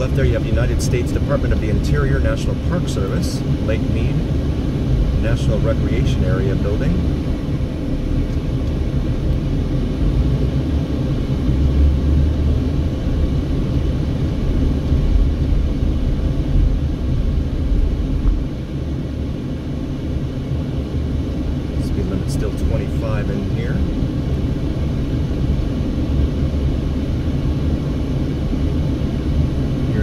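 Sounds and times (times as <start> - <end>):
car interior road rumble: 0.0 - 30.0.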